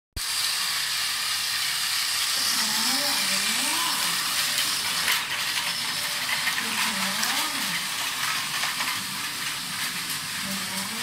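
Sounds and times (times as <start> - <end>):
toy trains whirring: 0.2 - 11.0.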